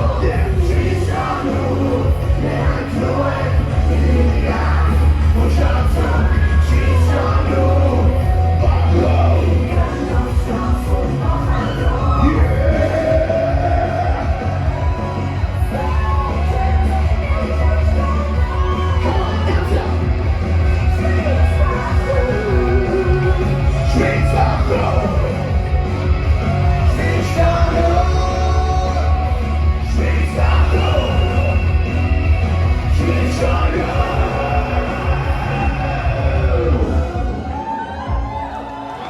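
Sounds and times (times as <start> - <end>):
singer yelling and singing: 0.0 - 39.0.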